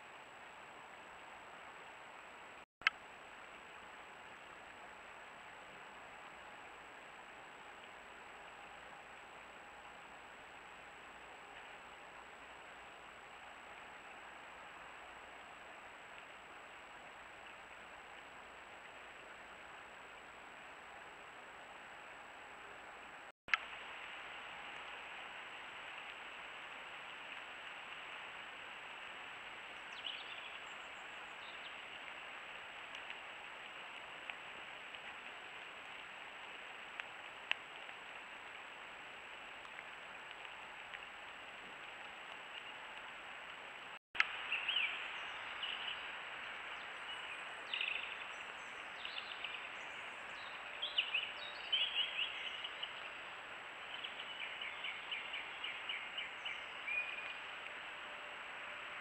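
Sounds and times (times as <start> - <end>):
microphone hiss: 0.0 - 59.0.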